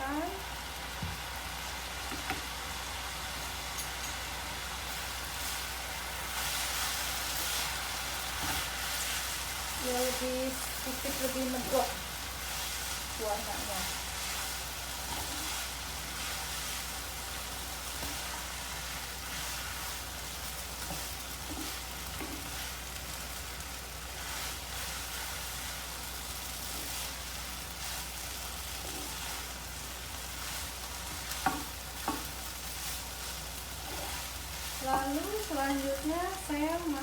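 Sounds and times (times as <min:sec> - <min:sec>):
noodles sizzling in a pan: 0:00.0 - 0:37.0.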